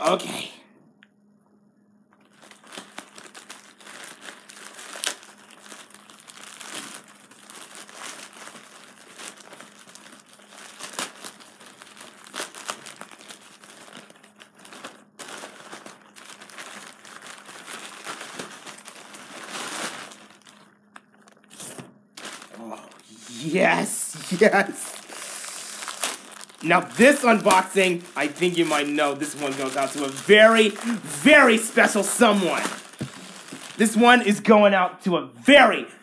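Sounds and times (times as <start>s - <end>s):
packaging crinkling and crackling: 2.1s - 34.5s.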